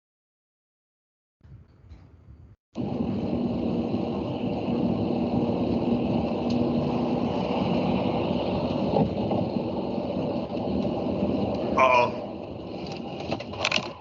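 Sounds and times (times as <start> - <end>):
faint hum: 1.6 - 14.0
car engine and road noise: 2.8 - 14.0.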